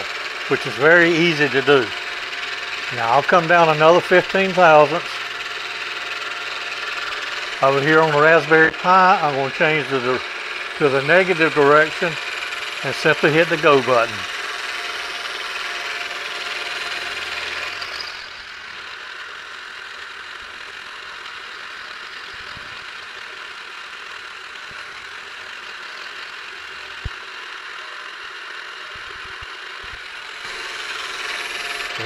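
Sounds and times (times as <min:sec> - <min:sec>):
milling machine cutting: 0:00.0 - 0:32.0
stepper motor turning: 0:00.0 - 0:32.0.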